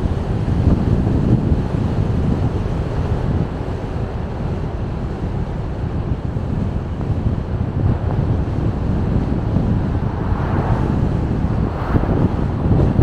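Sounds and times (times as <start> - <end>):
car tyre and wind rumble: 0.0 - 13.0.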